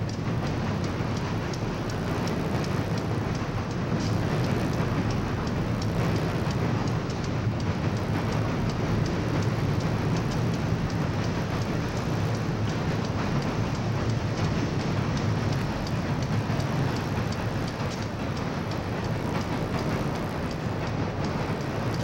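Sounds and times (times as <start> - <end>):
train wheels rumbling on bridge: 0.0 - 22.0
wheels clicking on rail: 0.0 - 22.0.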